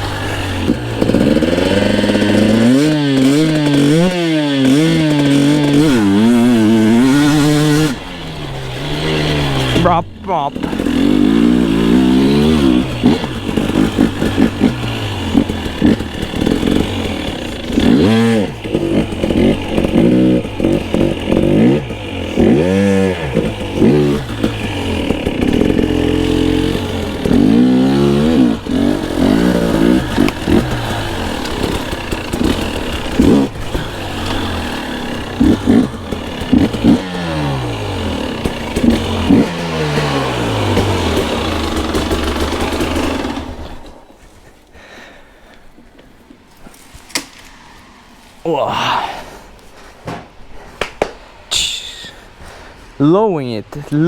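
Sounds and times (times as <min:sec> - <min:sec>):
dirt bike engine revving: 0:00.0 - 0:44.2.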